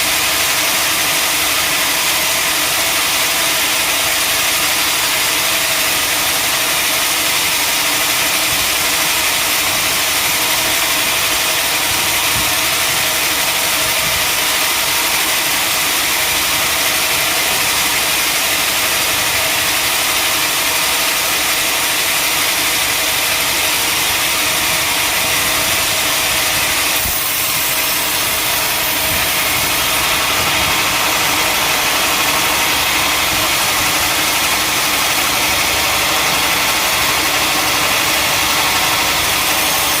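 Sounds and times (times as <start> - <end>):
sawmill machinery whirring: 0.0 - 40.0.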